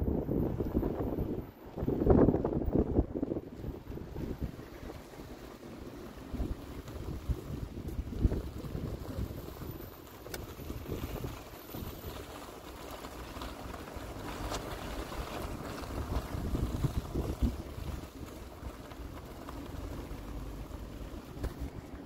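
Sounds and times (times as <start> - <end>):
car road rumble: 0.0 - 22.0
wind buffeting microphone: 0.0 - 22.0.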